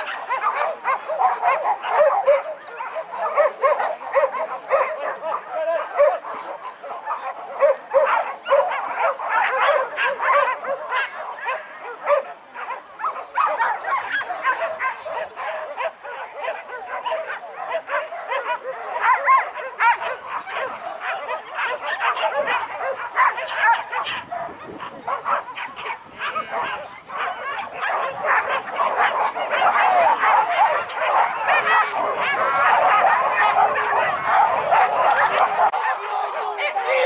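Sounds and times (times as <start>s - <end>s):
dogs barking and yelping: 0.0s - 37.0s.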